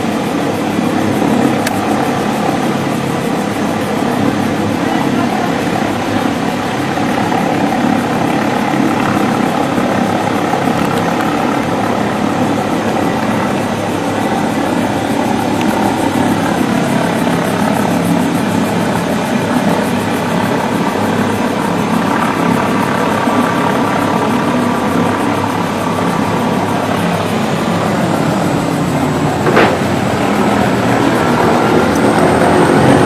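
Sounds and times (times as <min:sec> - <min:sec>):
aircraft engine drone: 0:00.0 - 0:33.0.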